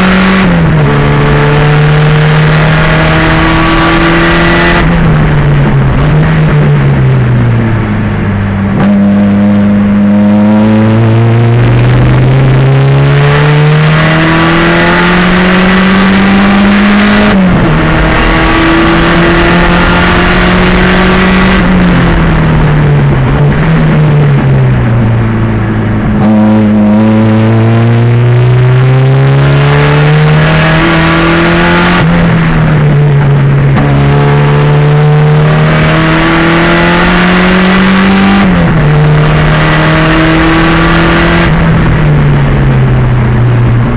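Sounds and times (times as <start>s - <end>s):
race car engine accelerating: 0.0s - 43.9s.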